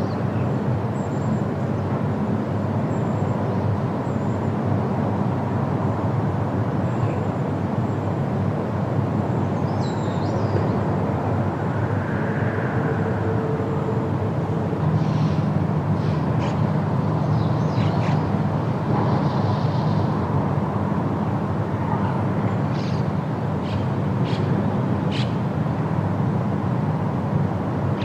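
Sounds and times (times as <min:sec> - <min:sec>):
wind rushing through leaves: 0:00.0 - 0:28.0.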